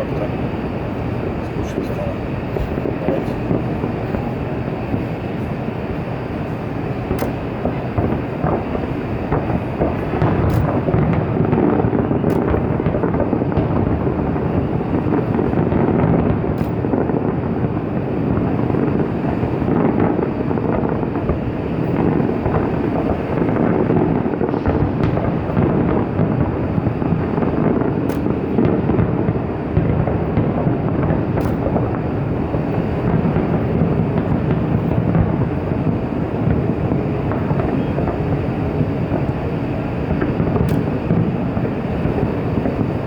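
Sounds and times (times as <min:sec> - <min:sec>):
fireworks rumbling bangs: 0:00.0 - 0:43.0.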